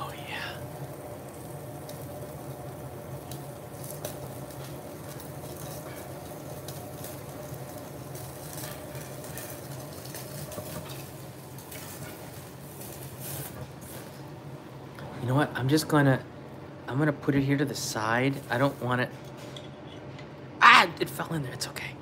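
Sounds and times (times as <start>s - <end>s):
meat sizzling on a grill: 0.0s - 19.4s
steady low hum: 0.0s - 22.0s.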